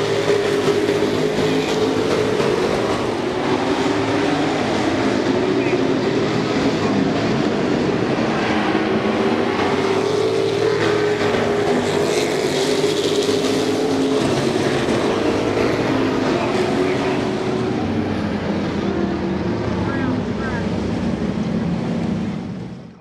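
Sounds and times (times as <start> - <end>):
race truck engines droning: 0.0 - 23.0.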